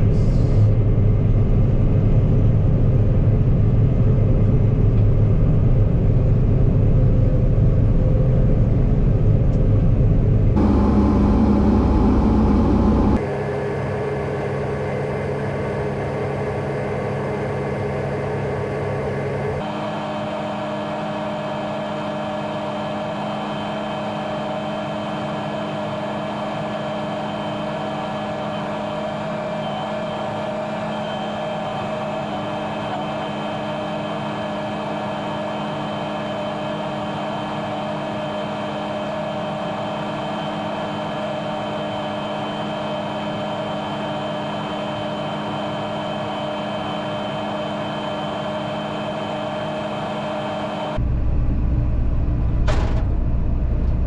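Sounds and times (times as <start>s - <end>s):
combine harvester hum: 0.0s - 54.0s
high machine whine: 10.4s - 54.0s.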